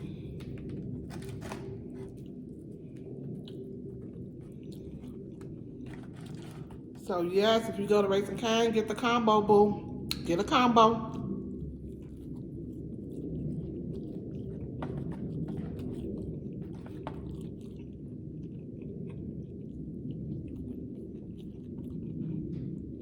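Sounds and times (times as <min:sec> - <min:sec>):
chewing food: 0:00.0 - 0:09.2, 0:09.8 - 0:23.0.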